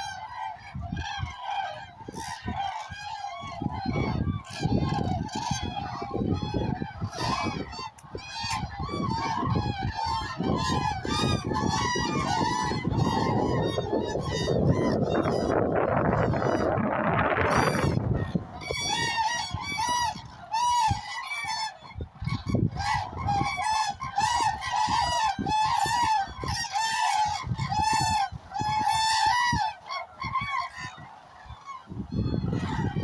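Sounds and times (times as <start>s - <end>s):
cranes trumpeting calls: 0.0s - 33.0s
wind rumble on microphone: 0.0s - 33.0s.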